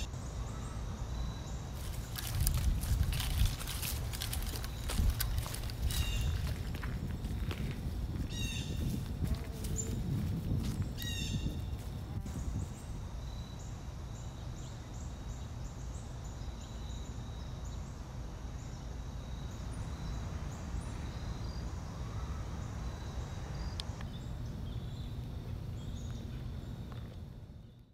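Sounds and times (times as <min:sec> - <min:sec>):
insect trill: 0:00.0 - 0:27.8.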